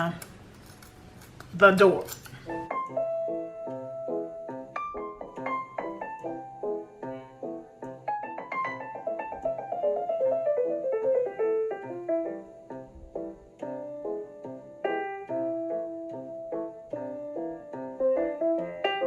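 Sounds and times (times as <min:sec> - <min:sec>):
piano music: 0:02.4 - 0:19.0.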